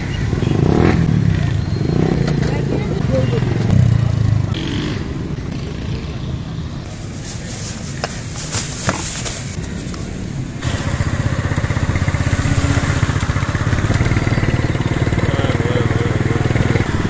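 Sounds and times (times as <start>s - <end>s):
motorcycle engine running: 0.0s - 17.0s
street noise: 0.0s - 17.0s.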